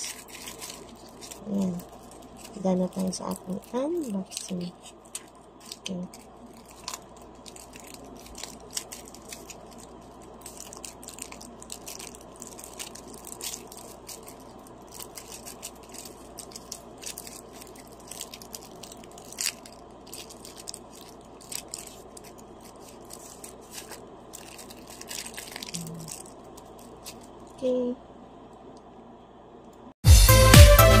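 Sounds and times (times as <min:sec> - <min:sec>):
packaging crinkling: 0:00.0 - 0:27.5.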